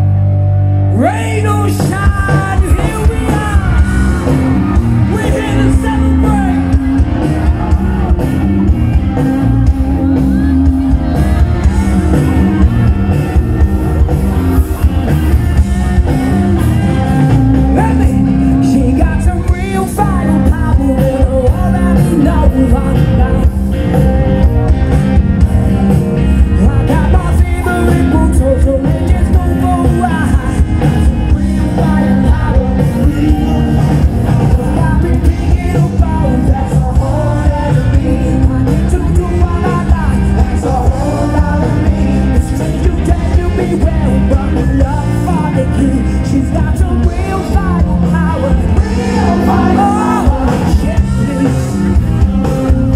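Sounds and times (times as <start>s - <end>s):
live rock band playing: 0.0s - 52.9s
man singing lead vocals: 0.9s - 25.1s, 25.7s - 52.9s.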